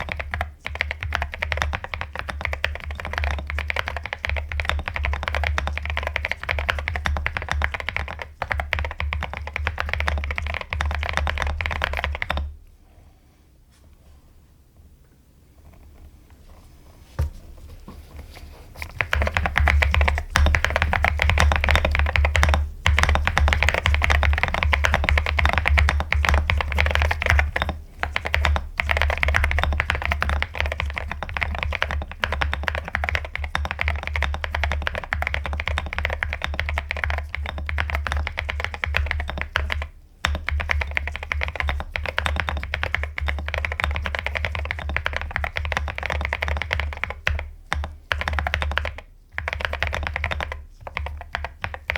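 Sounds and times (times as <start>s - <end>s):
mechanical keyboard typing: 0.0s - 12.5s, 18.8s - 51.9s.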